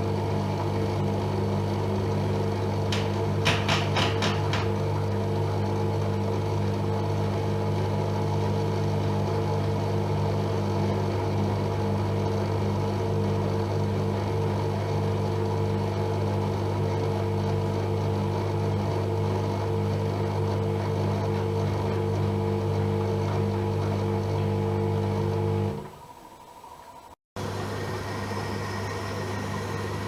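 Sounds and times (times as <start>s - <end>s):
washing machine humming: 0.0s - 30.0s.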